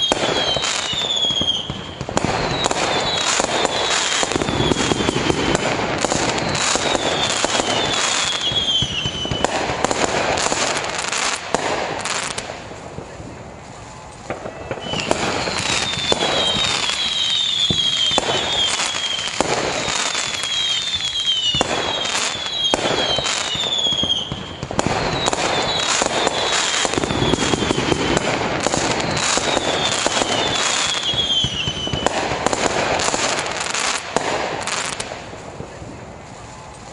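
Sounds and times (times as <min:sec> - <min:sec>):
fireworks whistles falling in pitch: 0:00.0 - 0:13.2, 0:14.2 - 0:36.6
fireworks bangs and crackling: 0:00.0 - 0:36.9.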